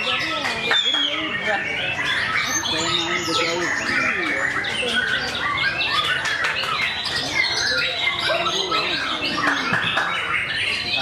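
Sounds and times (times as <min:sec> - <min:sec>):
many songbirds singing: 0:00.0 - 0:11.0.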